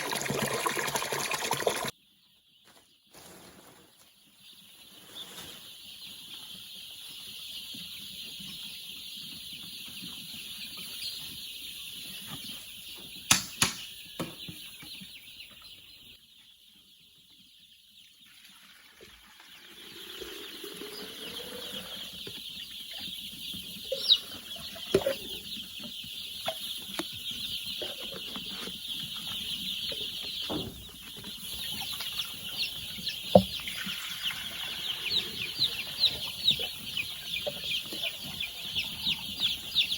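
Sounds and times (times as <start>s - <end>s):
chickens clucking: 1.6s - 39.9s.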